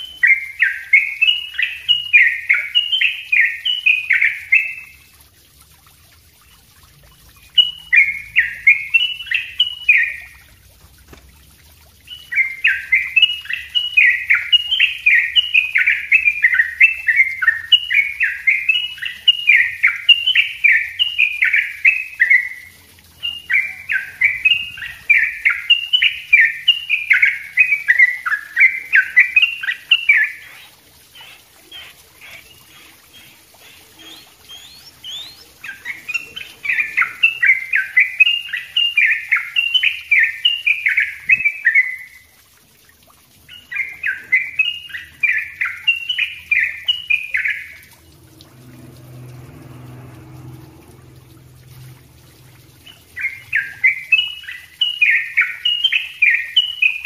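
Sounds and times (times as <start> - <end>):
bulbul singing bubbly notes: 0.0 - 57.0.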